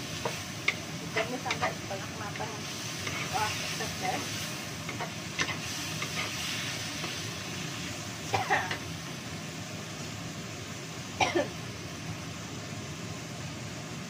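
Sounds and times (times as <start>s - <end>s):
greens sizzling in a wok: 0.0s - 14.0s.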